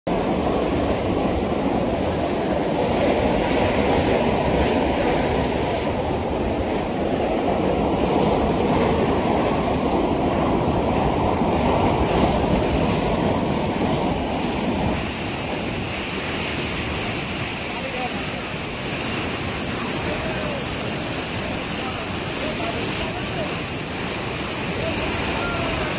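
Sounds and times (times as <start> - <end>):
floodwater rushing: 0.1 - 25.9.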